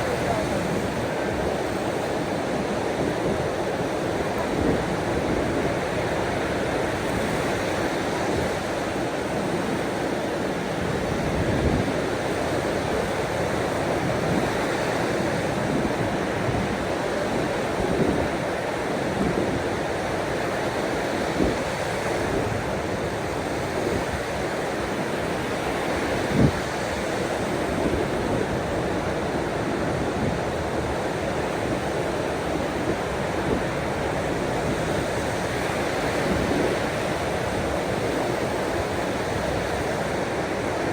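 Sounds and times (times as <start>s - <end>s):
ocean waves washing on shore: 0.0s - 40.9s.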